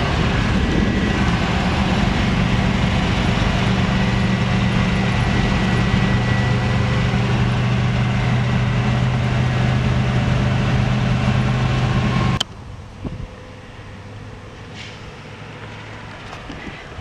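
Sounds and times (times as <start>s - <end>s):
car engine drone: 0.0s - 17.0s
quiet outdoor background: 0.0s - 17.0s
road and wind noise: 0.0s - 17.0s.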